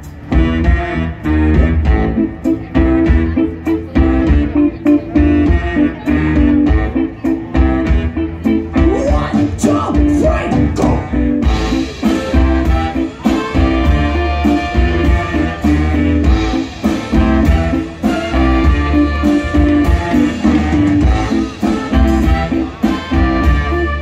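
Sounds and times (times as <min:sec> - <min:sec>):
brass band playing funk: 0:00.0 - 0:24.0
drum kit beat: 0:00.0 - 0:24.0
sousaphone bass line: 0:00.0 - 0:24.0.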